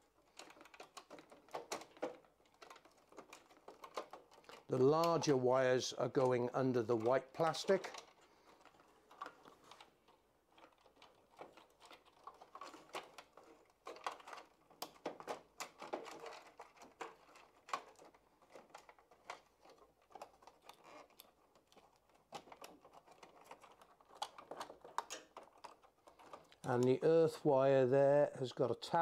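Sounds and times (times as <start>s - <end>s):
plastic plugs clicking and rustling: 0.0s - 27.5s.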